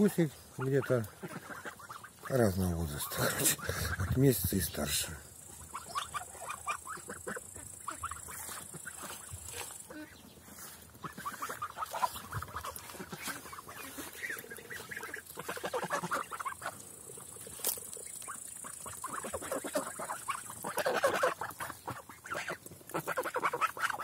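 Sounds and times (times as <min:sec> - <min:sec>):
geese pecking and bill-smacking: 0:00.0 - 0:24.0
soft goose calls: 0:00.0 - 0:24.0.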